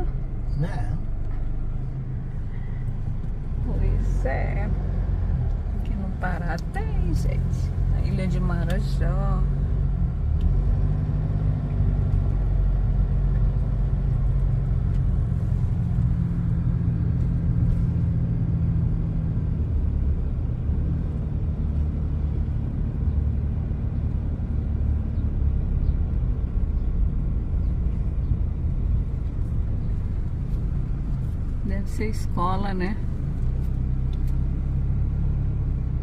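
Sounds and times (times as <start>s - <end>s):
car engine hum: 0.0s - 36.0s
road noise inside car: 0.0s - 36.0s.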